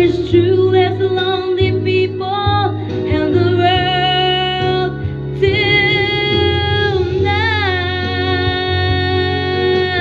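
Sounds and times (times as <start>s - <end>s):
backing music with guitar: 0.0s - 10.0s.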